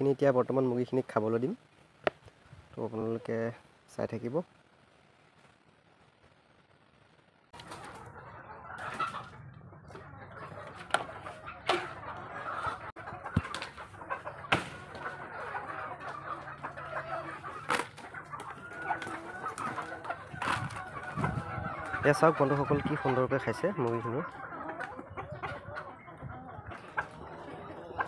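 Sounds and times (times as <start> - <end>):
chickens clucking: 0.0 - 4.6, 7.0 - 28.0.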